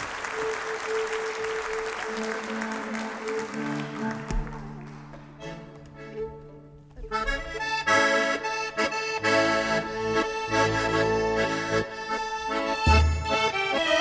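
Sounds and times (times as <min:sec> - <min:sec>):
piano accordion playing chords: 0:00.0 - 0:14.0.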